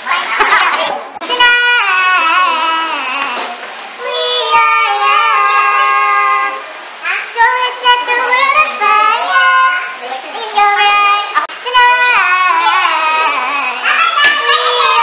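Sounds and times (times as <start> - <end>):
young people singing together: 0.7 - 9.9, 10.6 - 15.0.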